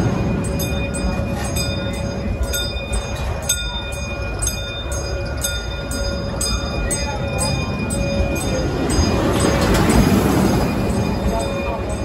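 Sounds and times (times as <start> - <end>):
train rumbling along track: 0.0 - 12.0
wheels clacking over rails: 0.0 - 12.0.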